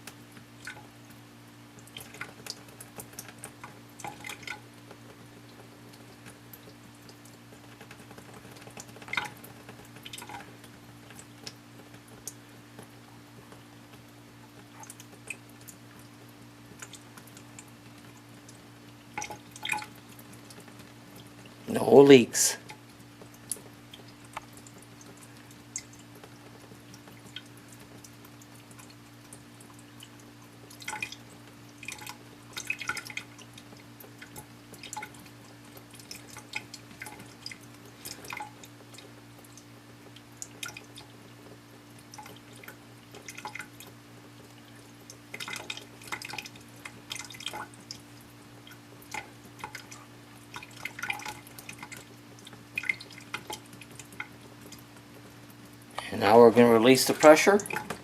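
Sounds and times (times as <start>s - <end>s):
water dripping: 0.0s - 58.0s.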